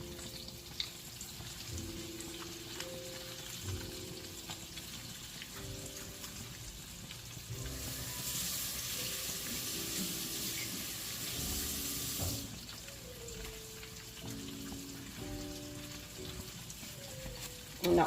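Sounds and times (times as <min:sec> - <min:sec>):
food deep-frying in hot oil: 0:00.0 - 0:18.0
soft background music: 0:00.0 - 0:18.0.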